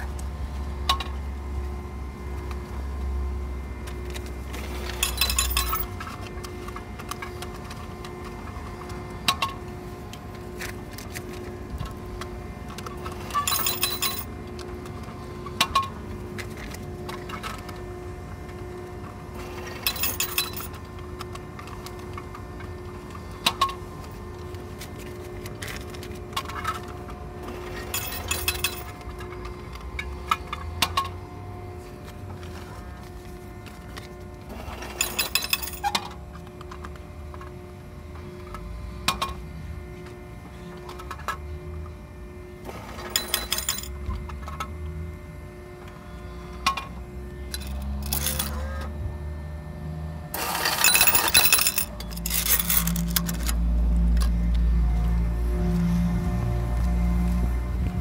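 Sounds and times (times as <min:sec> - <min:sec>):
car wash equipment humming: 0:00.0 - 0:58.0.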